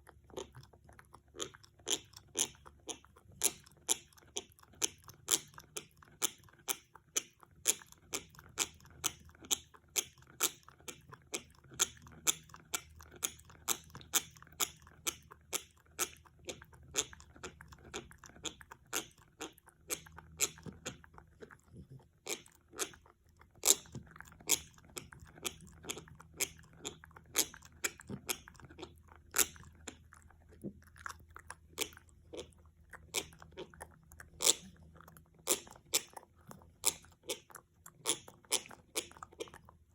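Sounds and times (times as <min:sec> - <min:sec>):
dog gnawing an antler: 0:00.0 - 0:39.9.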